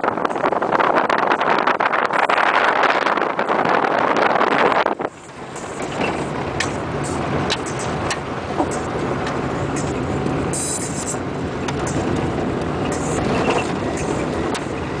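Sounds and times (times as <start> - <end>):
car engine and tyre rumble: 0.0 - 15.0
rattles and clicks in car: 0.0 - 15.0.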